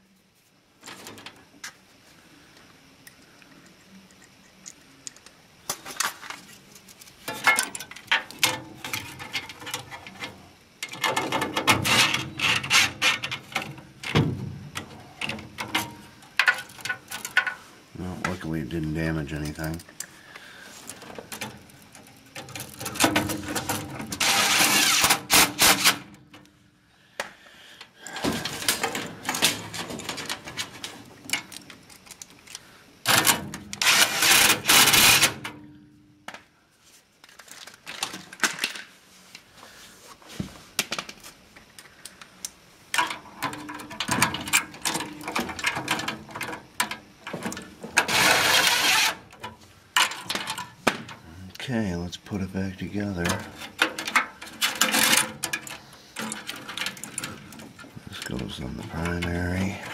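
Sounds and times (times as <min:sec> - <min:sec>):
rustling and scraping of parts: 0:00.0 - 0:26.6, 0:27.2 - 0:59.9.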